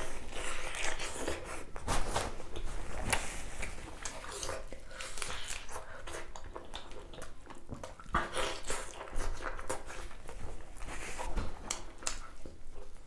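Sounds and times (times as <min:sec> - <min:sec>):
person chewing and smacking: 0:00.0 - 0:13.0.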